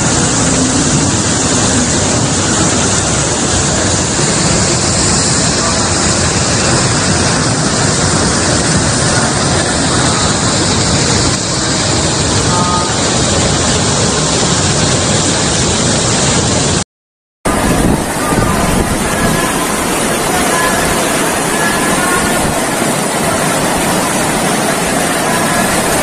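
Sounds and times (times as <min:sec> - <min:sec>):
rushing floodwater and waterfall: 0:00.0 - 0:16.8, 0:17.5 - 0:26.0.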